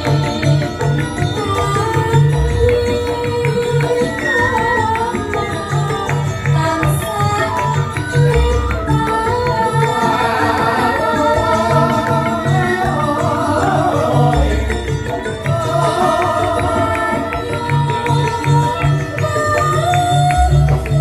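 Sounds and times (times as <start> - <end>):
gamelan ensemble playing: 0.0 - 21.0
woman singing: 0.0 - 21.0.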